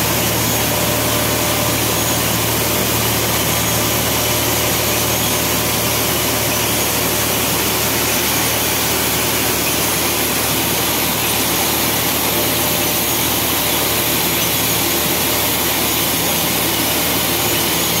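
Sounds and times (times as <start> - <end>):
low machine hum: 0.0 - 18.0
machinery hissing: 0.0 - 18.0.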